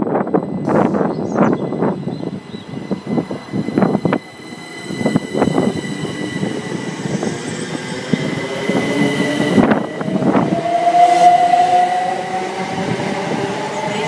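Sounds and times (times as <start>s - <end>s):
steady high tone: 0.0s - 14.0s
train low rumble: 0.0s - 14.0s.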